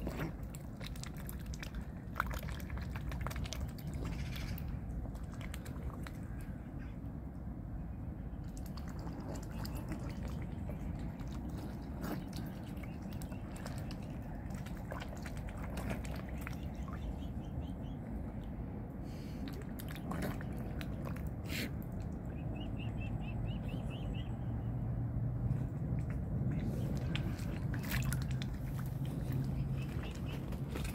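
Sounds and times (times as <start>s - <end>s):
swans splashing in water: 0.0s - 6.9s, 8.4s - 24.6s, 25.4s - 30.9s
low steady rumble: 0.0s - 30.9s.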